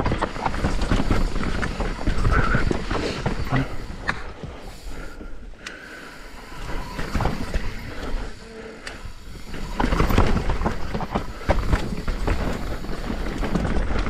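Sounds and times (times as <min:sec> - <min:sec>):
mountain bike rattling: 0:00.0 - 0:14.0.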